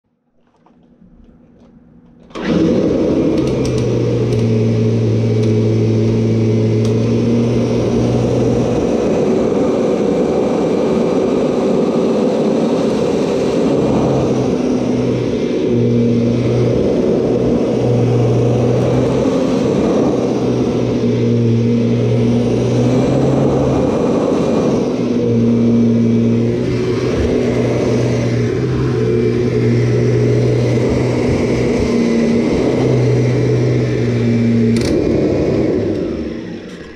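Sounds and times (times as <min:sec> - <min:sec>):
vacuum cleaner running: 0:00.4 - 0:36.9.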